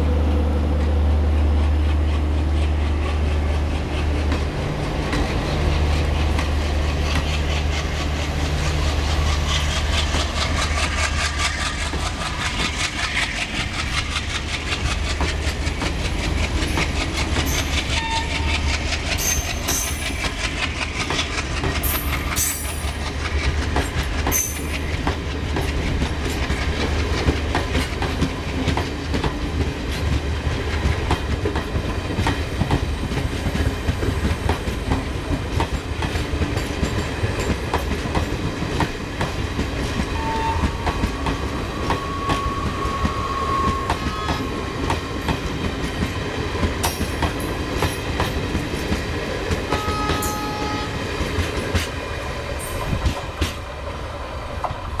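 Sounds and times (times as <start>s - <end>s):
train wheels clattering over rail joints: 1.9s - 50.5s, 51.2s - 53.7s.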